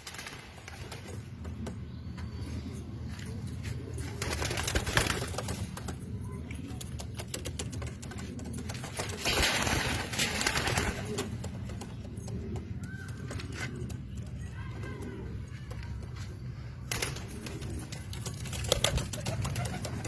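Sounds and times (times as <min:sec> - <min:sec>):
pigeons cooing: 0:00.8 - 0:20.0.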